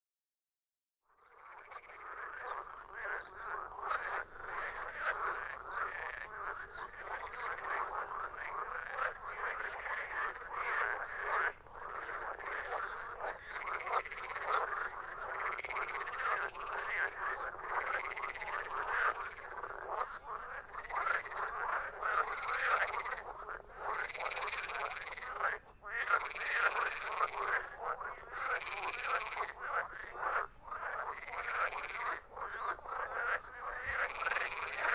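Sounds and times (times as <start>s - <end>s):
frogs croaking: 1.1s - 34.9s.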